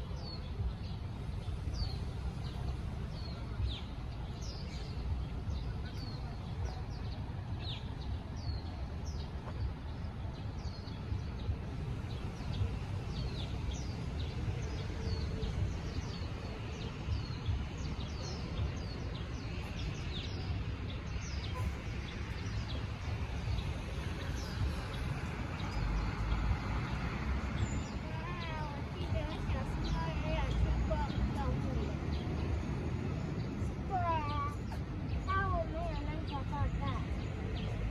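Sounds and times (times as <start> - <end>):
low rumble of vehicles: 0.0 - 37.9
small birds chirping: 0.0 - 37.9.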